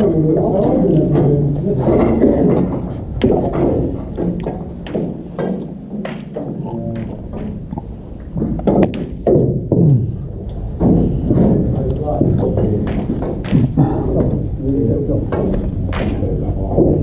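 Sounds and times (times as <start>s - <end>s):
indistinct voices: 0.0s - 17.0s
snooker balls clicking: 0.0s - 17.0s.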